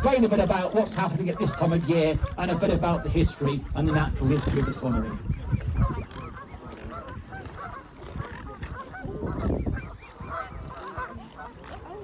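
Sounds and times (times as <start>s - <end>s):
swans calling: 0.0s - 12.0s.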